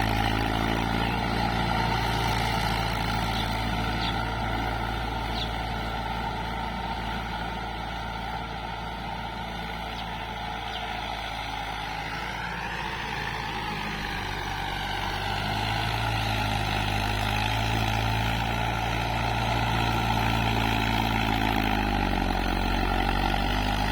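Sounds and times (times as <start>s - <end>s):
rotavator churning muddy soil: 0.0s - 23.9s
tractor diesel engine running: 0.0s - 23.9s.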